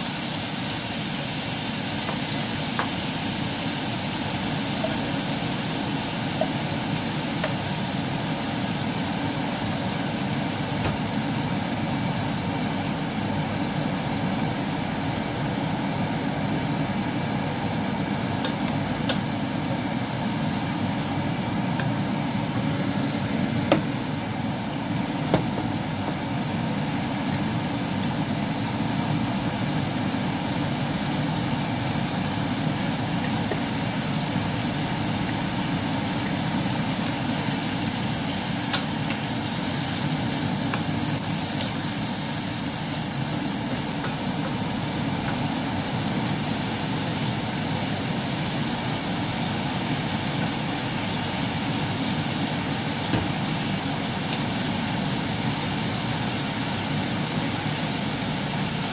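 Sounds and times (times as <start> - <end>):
food sizzling in a wok: 0.0 - 58.9.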